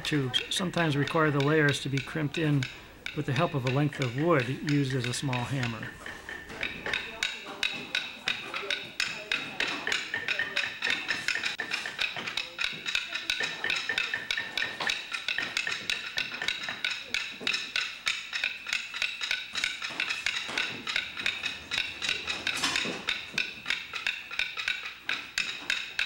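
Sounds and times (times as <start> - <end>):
wooden taps on paper tubes: 0.0 - 26.0.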